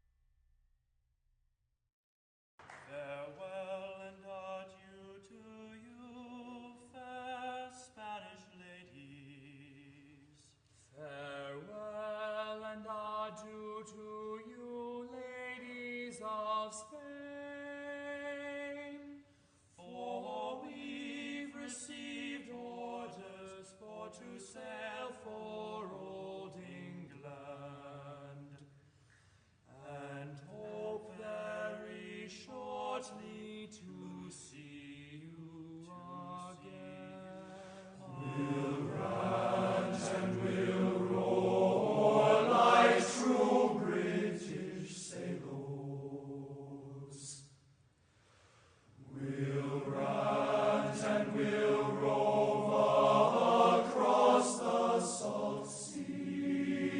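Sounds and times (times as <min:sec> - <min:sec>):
slow chant-like background music: 0:02.9 - 0:28.7, 0:29.7 - 0:47.5, 0:49.0 - 0:56.9.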